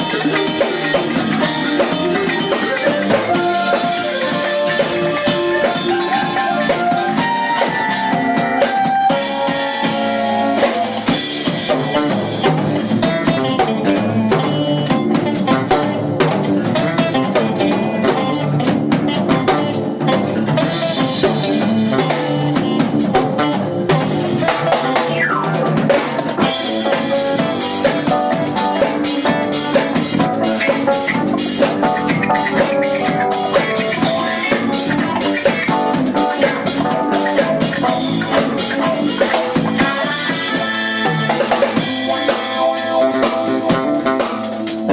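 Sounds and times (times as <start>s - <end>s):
drum kit: 0.0s - 44.9s
electric bass: 0.0s - 44.9s
electric guitar: 0.0s - 44.9s
keyboards: 0.0s - 44.9s.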